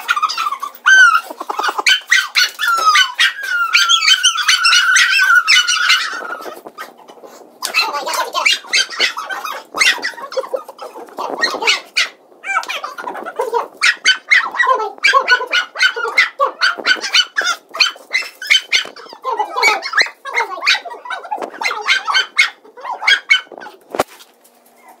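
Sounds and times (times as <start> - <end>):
small dogs yapping: 0.0 - 24.1, 24.8 - 25.0.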